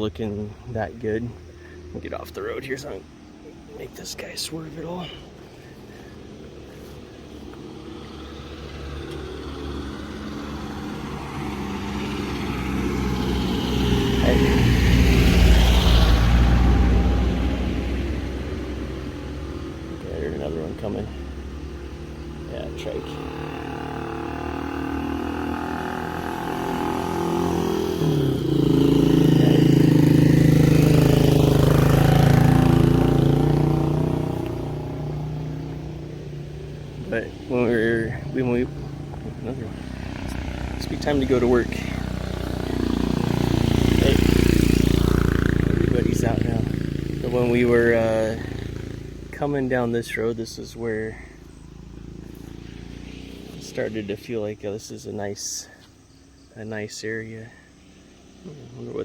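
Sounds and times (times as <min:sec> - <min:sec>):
motor vehicle engine approaching: 0:00.0 - 0:56.5.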